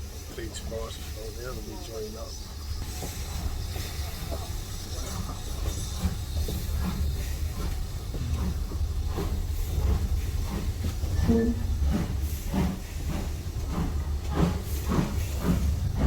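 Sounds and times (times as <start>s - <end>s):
steam train rumbling: 0.0s - 16.0s.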